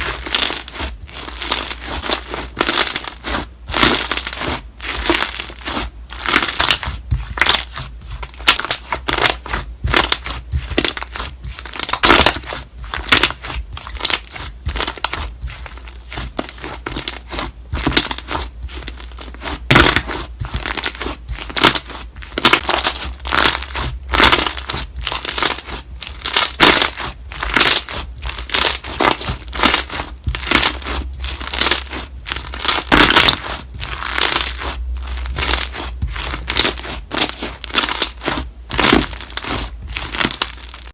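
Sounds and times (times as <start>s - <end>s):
slime being squeezed: 0.0s - 40.9s.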